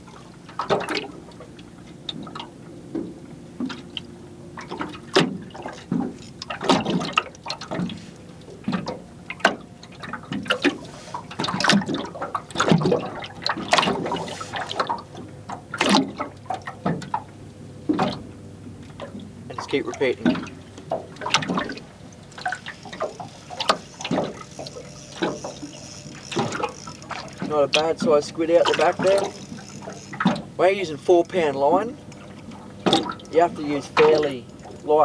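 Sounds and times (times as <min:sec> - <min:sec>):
water lapping against boat hull: 0:00.0 - 0:35.0.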